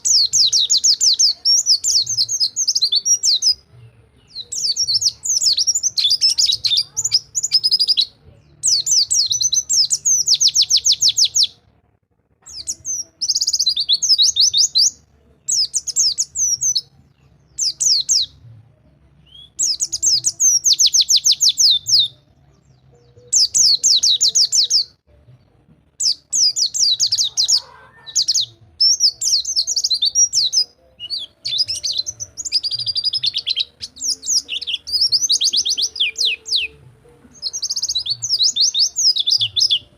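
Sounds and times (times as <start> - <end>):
bird singing rapid high chirps: 0.0 - 11.6, 12.5 - 18.4, 19.2 - 25.0, 26.0 - 39.9.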